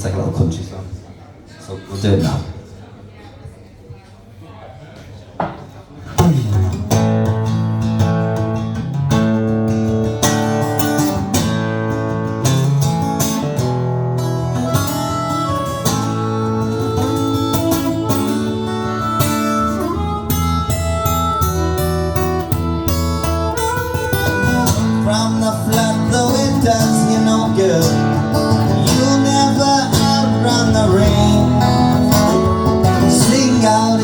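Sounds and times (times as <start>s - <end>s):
acoustic guitar strumming: 6.2s - 34.0s.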